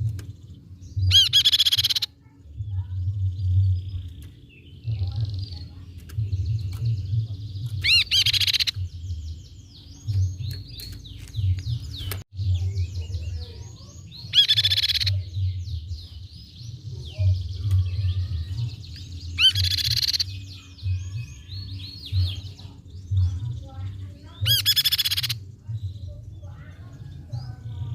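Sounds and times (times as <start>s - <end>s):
bird calling and singing: 0.0s - 27.9s.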